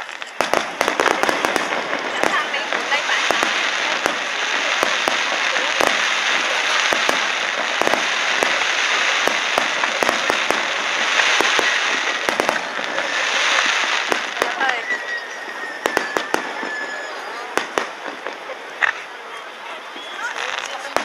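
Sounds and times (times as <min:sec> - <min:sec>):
fireworks pops and bangs: 0:00.0 - 0:19.2, 0:20.0 - 0:21.0
fireworks crackling: 0:00.0 - 0:21.0.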